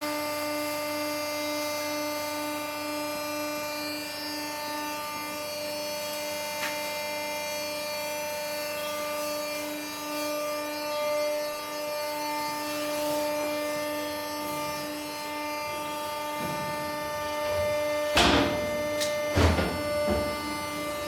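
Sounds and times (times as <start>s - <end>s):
motor whining: 3.5s - 21.0s.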